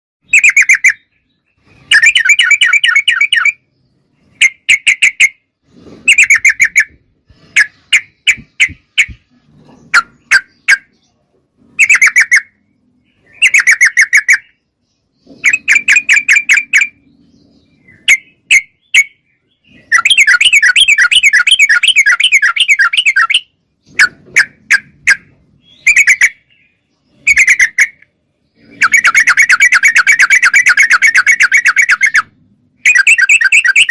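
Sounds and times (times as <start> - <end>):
bird singing bubbling phrases: 0.2 - 33.9.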